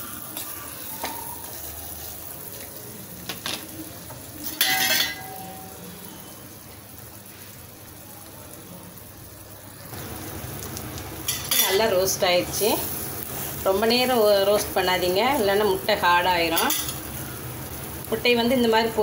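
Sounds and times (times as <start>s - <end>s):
quiet frying sizzle: 0.0s - 19.0s.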